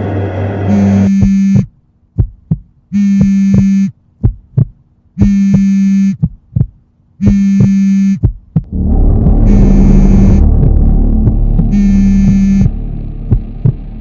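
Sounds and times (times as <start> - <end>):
low thumps: 0.0 - 14.0
phone vibrating on wooden table: 0.7 - 6.4, 7.2 - 13.8.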